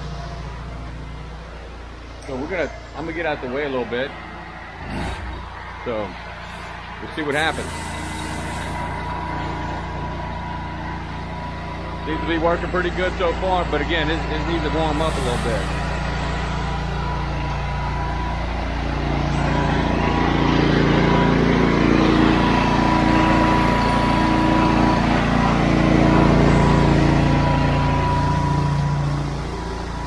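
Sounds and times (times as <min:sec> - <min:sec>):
pressure washer engine running: 0:00.0 - 0:30.0.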